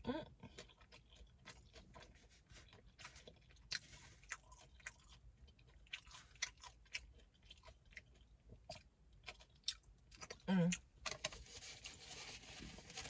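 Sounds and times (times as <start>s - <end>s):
chewing crunchy taco: 0.3s - 12.8s.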